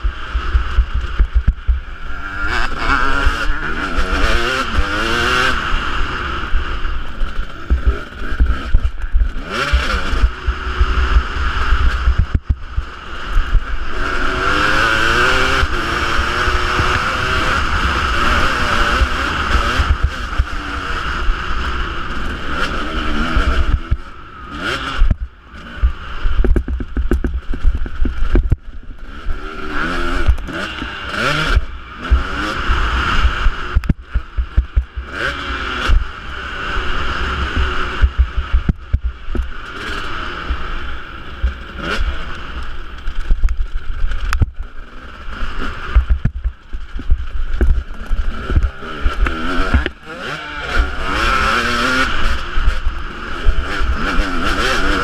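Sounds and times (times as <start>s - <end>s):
two-stroke motocross engine revving: 0.0s - 55.0s.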